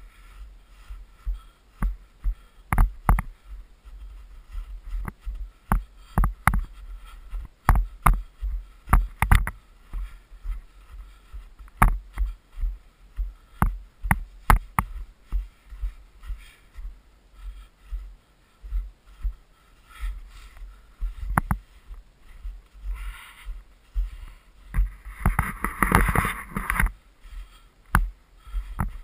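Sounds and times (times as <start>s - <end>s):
footsteps crunching in snow: 0.0s - 29.0s.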